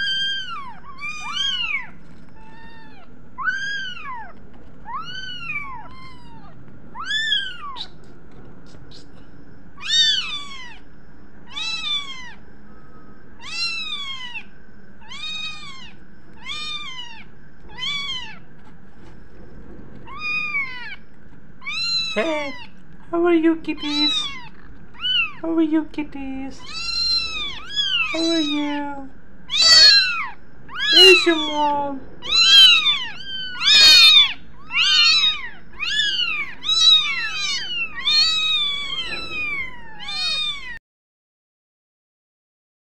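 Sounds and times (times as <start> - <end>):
kittens meowing: 0.0 - 8.1, 9.8 - 12.4, 13.4 - 18.5, 20.0 - 22.8, 23.5 - 40.8.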